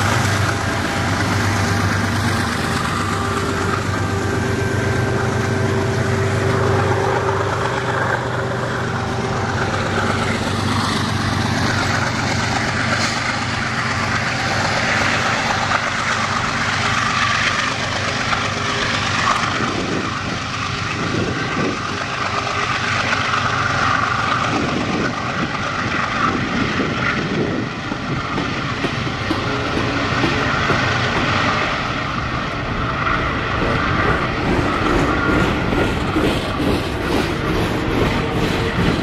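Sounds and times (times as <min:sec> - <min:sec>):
diesel locomotives under power: 0:00.0 - 0:39.0
rumble of cars on rails: 0:00.0 - 0:39.0.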